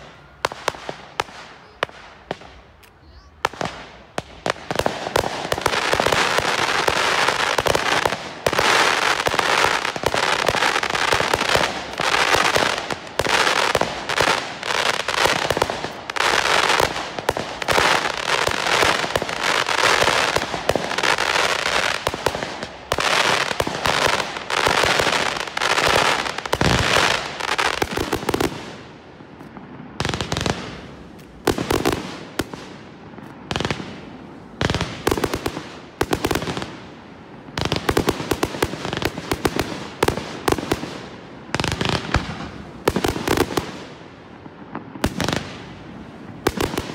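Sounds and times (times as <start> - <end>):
fireworks bangs and crackle: 0.0 - 46.9.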